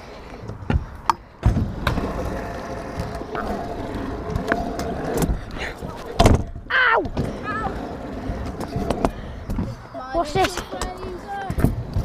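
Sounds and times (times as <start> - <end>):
scooter wheels rolling on concrete: 0.0 - 12.0.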